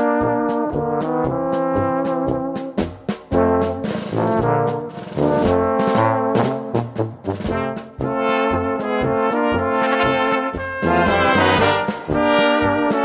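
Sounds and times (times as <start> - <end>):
brass instruments playing: 0.0 - 13.0.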